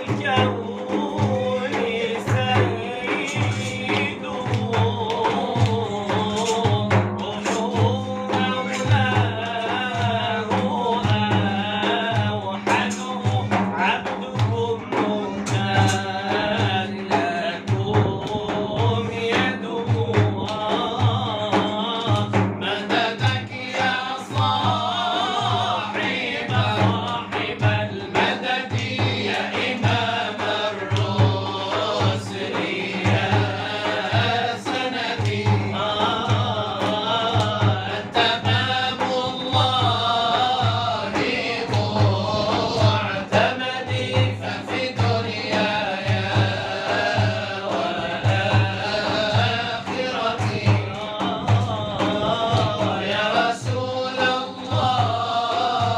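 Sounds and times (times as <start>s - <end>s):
men singing devotional song: 0.0s - 55.9s.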